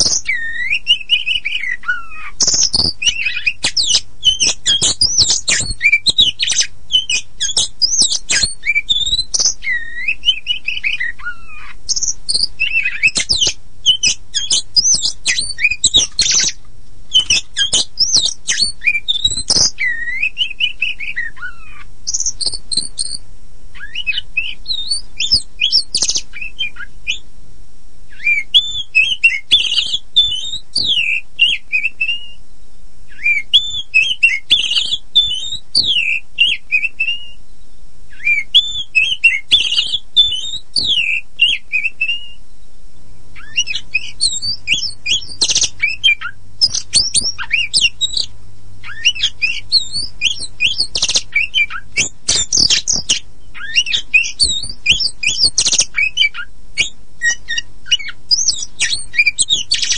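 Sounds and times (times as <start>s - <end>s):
bird singing whistled phrases: 0.0s - 27.2s, 28.1s - 32.4s, 33.1s - 37.4s, 38.1s - 42.4s, 43.4s - 59.9s.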